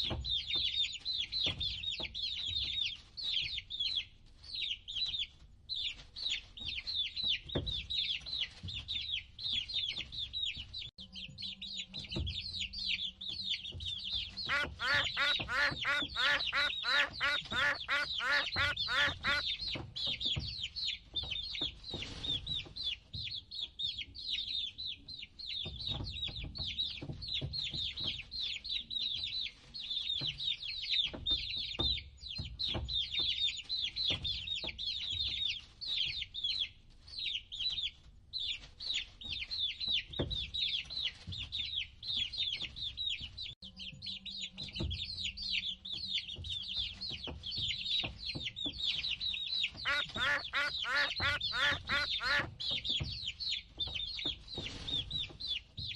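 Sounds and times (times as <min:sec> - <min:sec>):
baby chicks peeping: 0:00.0 - 0:55.9.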